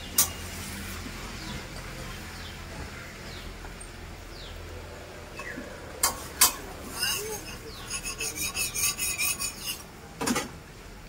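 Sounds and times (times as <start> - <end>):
street food stall hum: 0.0 - 11.0.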